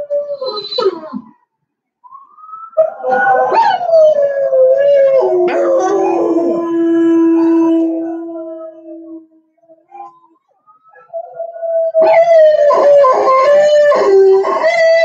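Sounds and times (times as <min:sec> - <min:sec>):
dogs howling: 0:02.7 - 0:15.0.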